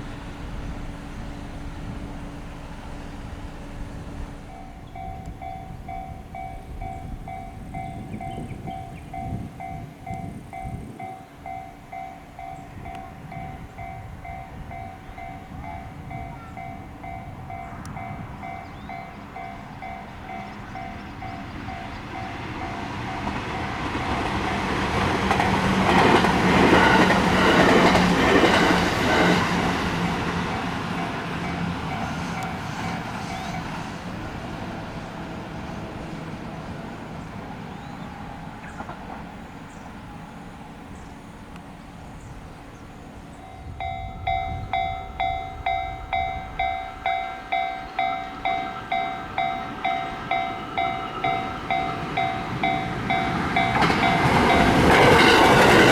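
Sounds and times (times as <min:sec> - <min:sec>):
level crossing warning bell: 0:00.0 - 0:34.4, 0:43.3 - 0:55.9
train passing: 0:00.0 - 0:55.9.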